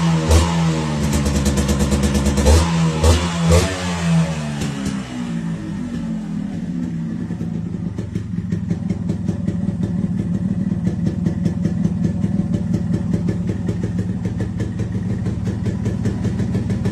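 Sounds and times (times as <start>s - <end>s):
two-stroke engine idling: 0.0s - 16.9s.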